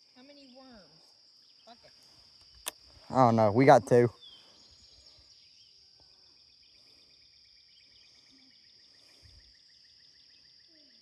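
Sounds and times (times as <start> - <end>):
insects chirping: 0.0 - 11.0
insects droning: 0.0 - 11.0.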